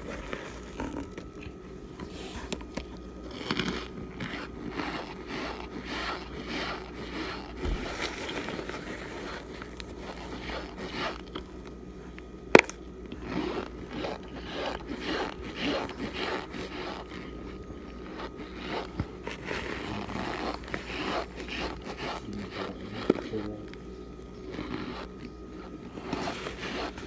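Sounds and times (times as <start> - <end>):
chewing dry crunches: 0.0 - 27.0.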